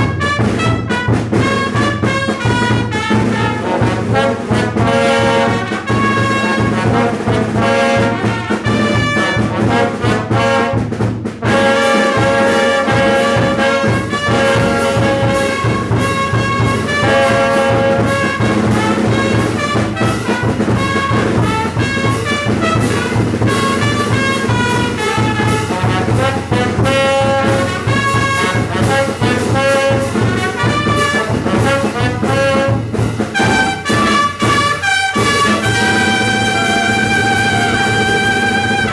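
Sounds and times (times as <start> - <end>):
brass band playing: 0.0 - 38.9
trumpets and trombones melody: 0.0 - 38.9.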